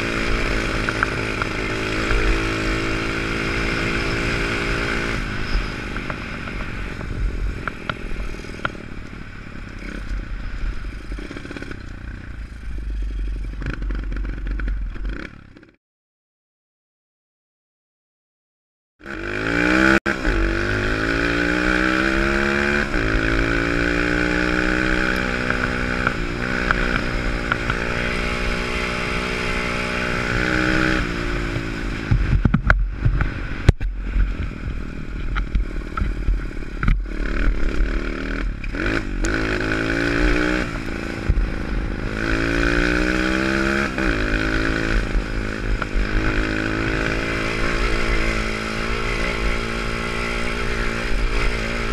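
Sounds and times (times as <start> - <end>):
pit bike engine revving: 0.0 - 8.9, 19.0 - 51.9.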